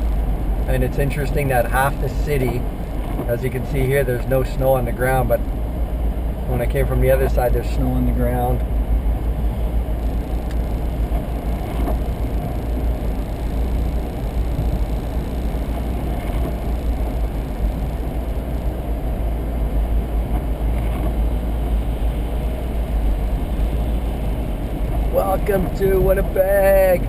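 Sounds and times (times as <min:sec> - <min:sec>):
engine and tyre rumble: 0:00.0 - 0:27.0.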